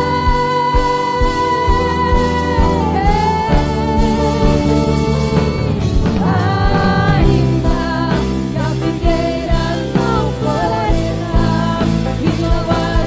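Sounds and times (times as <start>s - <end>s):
live band playing worship song: 0.0s - 13.0s
person singing: 0.0s - 13.0s.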